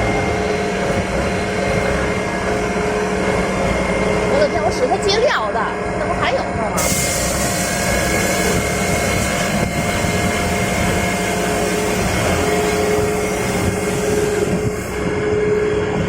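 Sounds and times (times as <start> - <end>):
high whine: 0.0 - 16.0.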